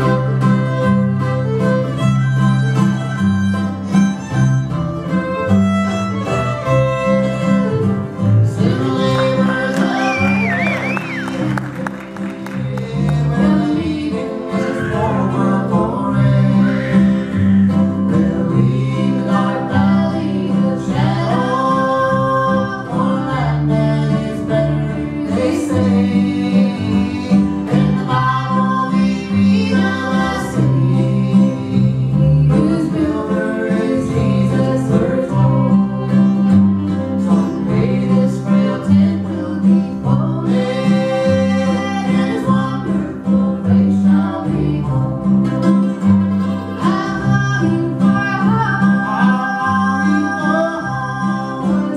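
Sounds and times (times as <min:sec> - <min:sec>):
fiddle: 0:00.0 - 0:51.9
string band playing: 0:00.0 - 0:51.9
person singing: 0:08.4 - 0:45.9, 0:46.6 - 0:51.9.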